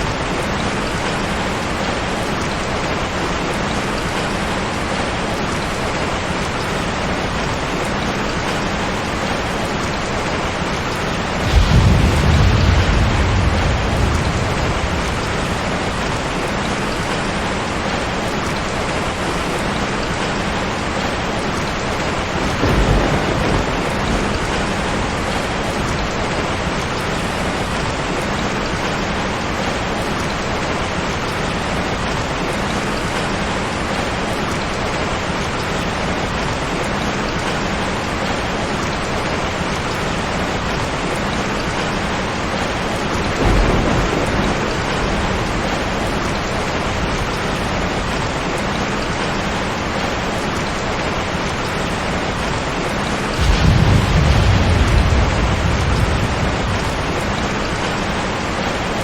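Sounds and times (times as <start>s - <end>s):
low rumble of thunder: 0.0s - 19.5s, 20.2s - 30.2s, 40.2s - 59.0s
heavy rain hissing: 0.0s - 59.0s.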